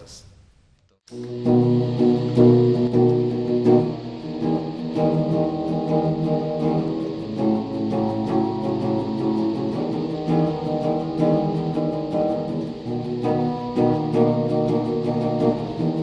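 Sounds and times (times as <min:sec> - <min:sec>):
guitar sustained notes: 0:01.1 - 0:16.0.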